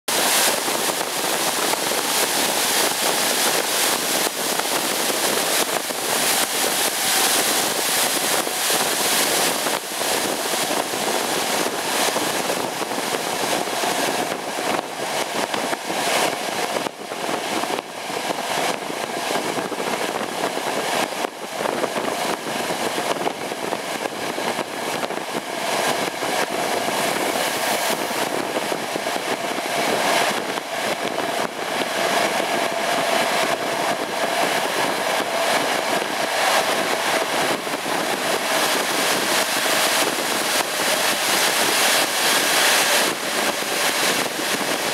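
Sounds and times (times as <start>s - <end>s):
train wheels rumbling on rails: 0.1s - 44.9s.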